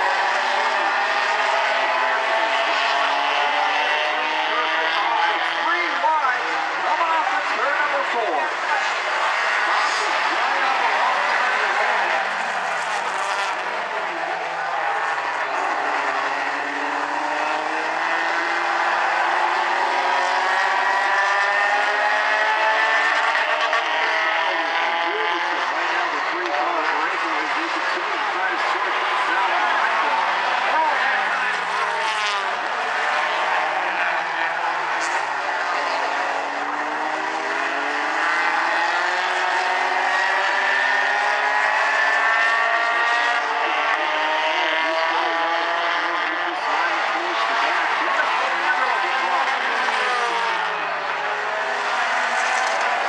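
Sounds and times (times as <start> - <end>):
racing car engines accelerating: 0.0 - 53.0.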